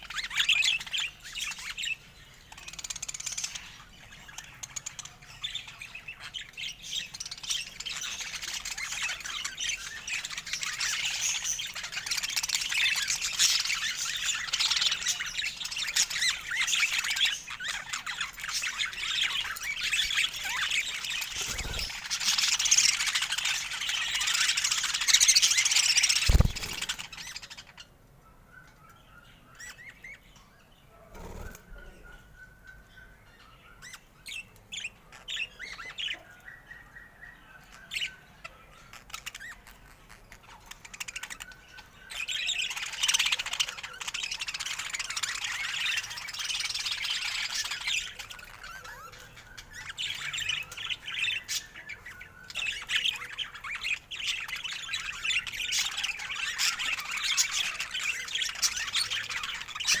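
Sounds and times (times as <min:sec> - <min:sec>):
budgerigar chirping and warbling: 0:00.1 - 0:27.8, 0:34.8 - 1:00.0.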